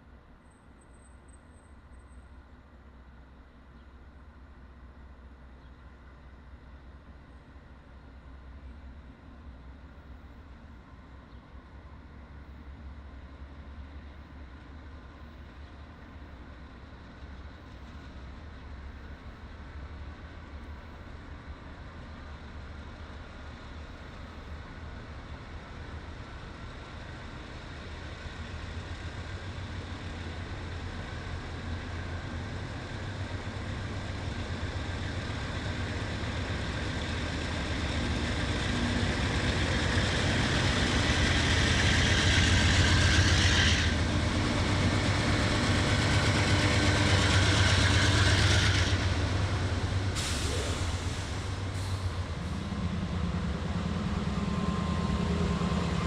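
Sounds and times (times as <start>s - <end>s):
diesel locomotive engine hum: 0.0s - 56.0s.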